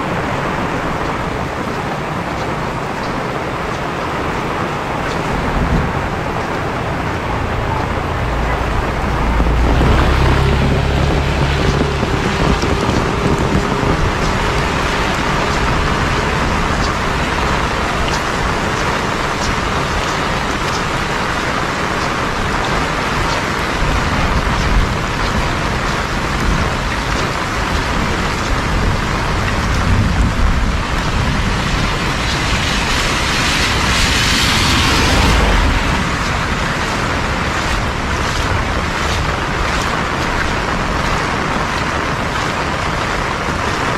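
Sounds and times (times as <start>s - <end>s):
heavy rain pouring: 0.0s - 43.9s
deep rumble: 3.9s - 43.6s.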